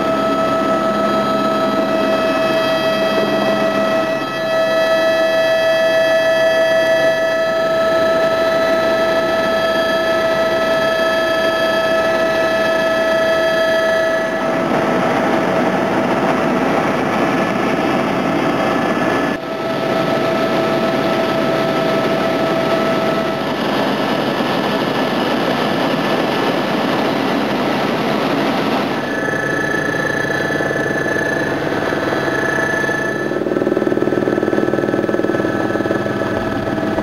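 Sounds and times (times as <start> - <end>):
helicopter engine whine: 0.0 - 37.0.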